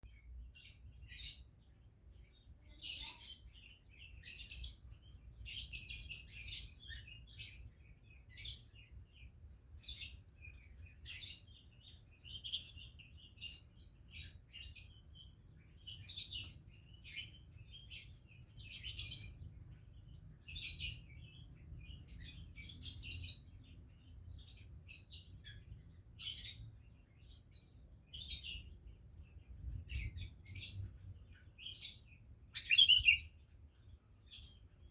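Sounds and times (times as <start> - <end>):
bird chirping: 0.0 - 34.9.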